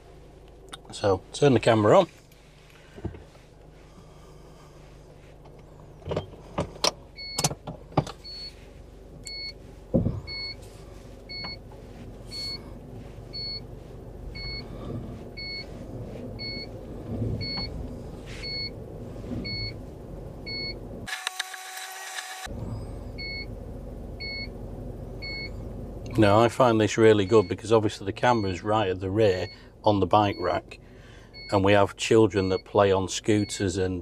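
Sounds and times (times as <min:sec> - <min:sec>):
van engine running: 0:00.0 - 0:21.1, 0:22.4 - 0:34.0.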